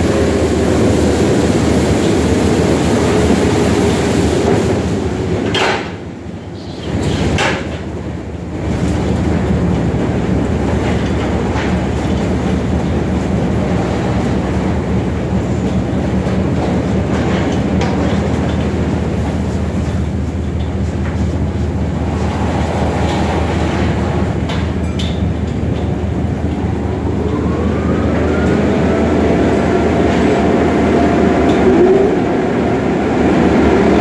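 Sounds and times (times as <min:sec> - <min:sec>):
car wash machinery hum: 0:00.0 - 0:34.0.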